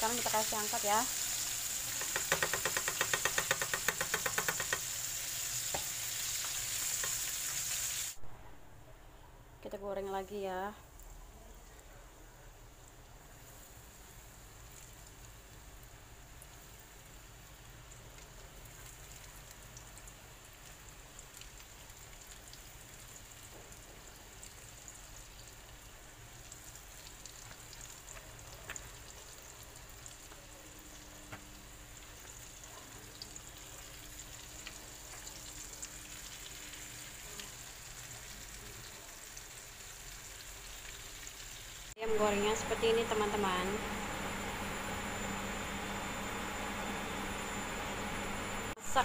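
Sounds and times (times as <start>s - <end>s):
chicken deep-frying in oil: 0.0s - 8.2s, 10.0s - 49.0s.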